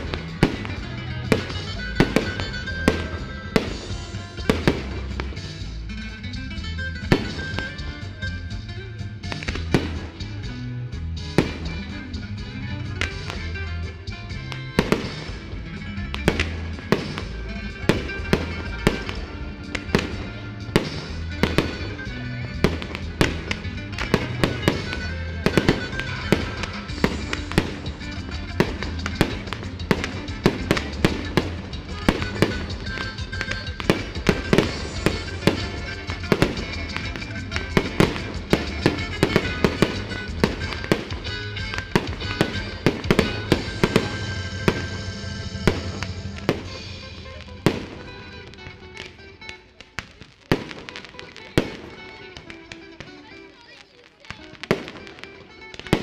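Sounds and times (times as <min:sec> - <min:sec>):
fireworks bangs and crackles: 0:00.0 - 0:56.0
music: 0:00.0 - 0:56.0.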